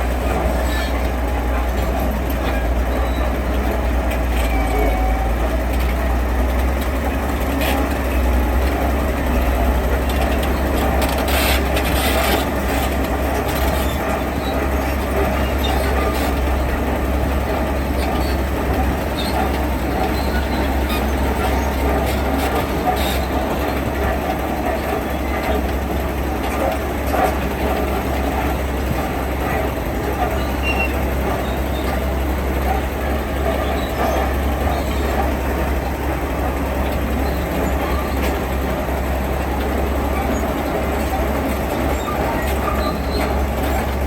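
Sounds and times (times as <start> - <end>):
diesel machinery rumbling: 0.0 - 44.0.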